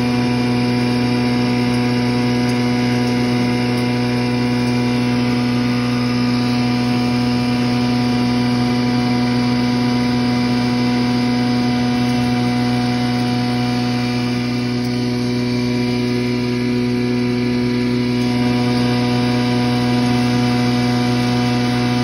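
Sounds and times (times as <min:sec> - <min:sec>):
straw grinder machine humming: 0:00.0 - 0:22.0.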